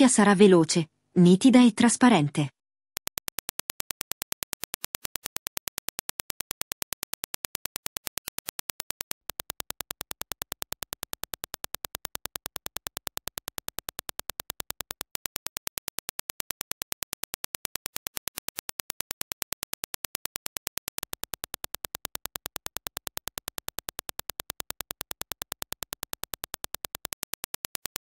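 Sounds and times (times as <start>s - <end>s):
sharp clicks: 3.0s - 28.0s.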